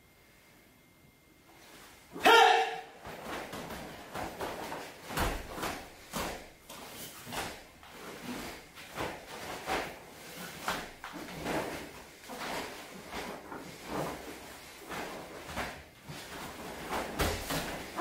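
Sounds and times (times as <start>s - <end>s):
bare feet on mat: 1.5s - 18.0s
uniform swishes and snaps: 3.0s - 18.0s.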